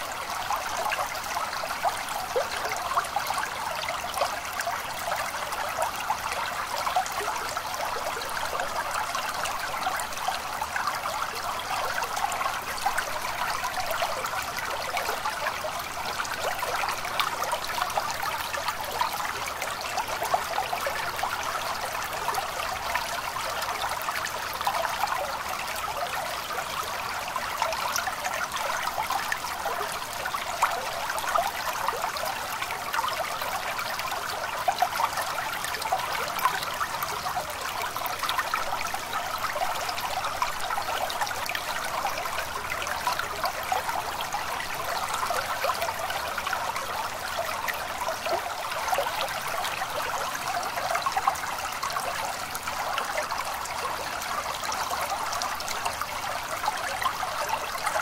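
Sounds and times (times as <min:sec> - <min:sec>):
stream trickling and babbling: 0:00.0 - 0:58.0.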